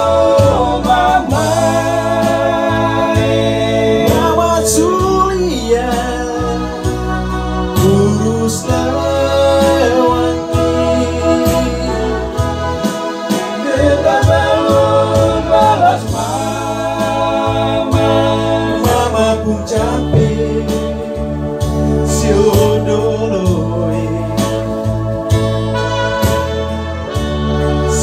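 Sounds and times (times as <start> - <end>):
men singing in harmony: 0.0 - 25.8, 27.6 - 28.0
electronic keyboard with beat: 0.0 - 28.0.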